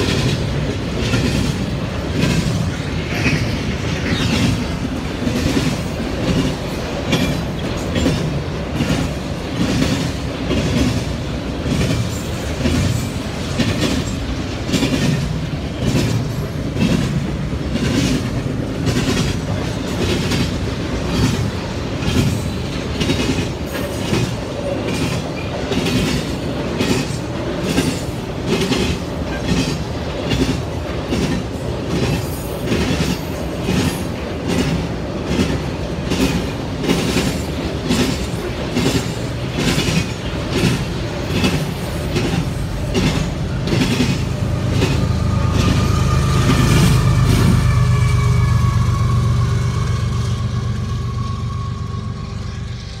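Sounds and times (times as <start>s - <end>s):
train wheels clicking over rail joints: 0.0s - 51.3s
train low rumble: 0.0s - 53.0s.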